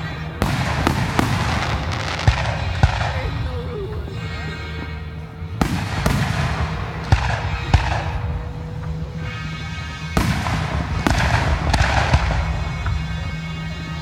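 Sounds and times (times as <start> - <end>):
fireworks hissing: 0.0 - 13.9
fireworks bursting in sharp bangs: 0.0 - 14.0.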